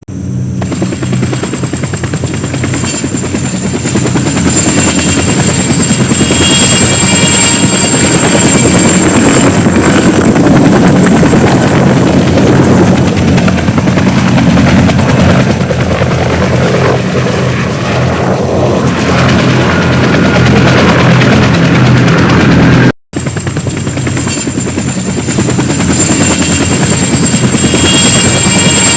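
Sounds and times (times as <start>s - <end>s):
helicopter rotor blades chopping: 0.1s - 28.9s.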